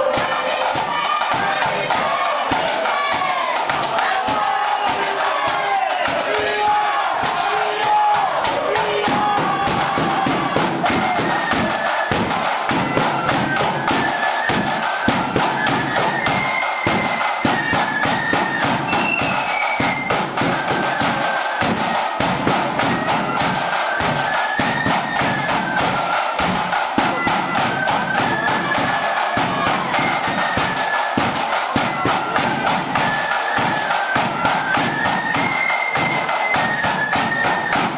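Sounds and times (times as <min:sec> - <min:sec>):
flutes playing melody: 0:00.0 - 0:37.9
rattling side drums: 0:00.0 - 0:37.9
bass drum: 0:00.1 - 0:16.2, 0:16.8 - 0:35.2.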